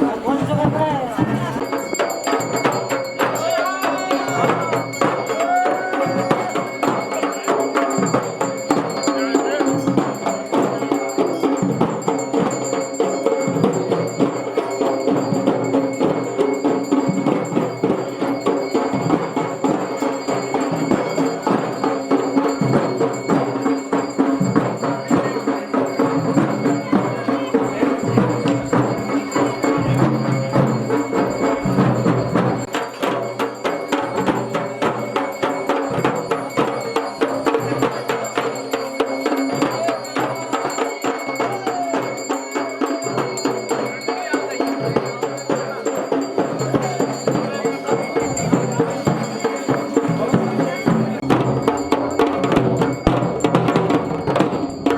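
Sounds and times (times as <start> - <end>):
bells ringing: 0.0 - 54.9
fast drumming: 0.0 - 54.9.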